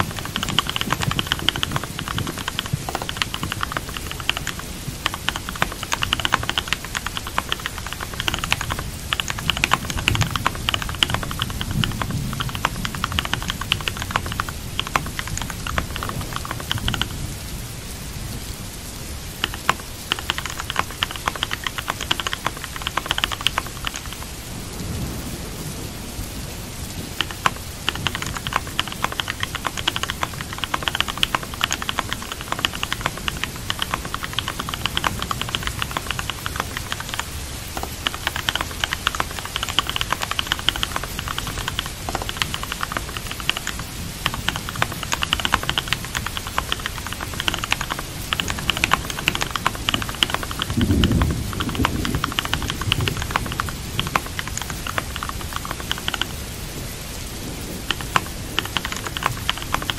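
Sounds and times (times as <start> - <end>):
computer keyboard typing: 0.0 - 17.5, 19.3 - 24.5, 27.0 - 56.6, 57.7 - 59.9
steady rain: 0.0 - 59.9.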